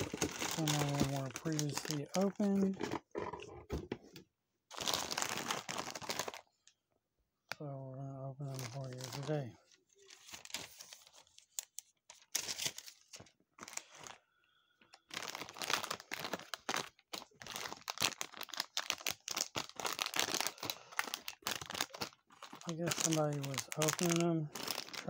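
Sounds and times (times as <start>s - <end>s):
plastic bags crinkling: 0.0s - 3.2s, 4.7s - 6.4s, 8.5s - 14.2s, 15.0s - 25.0s.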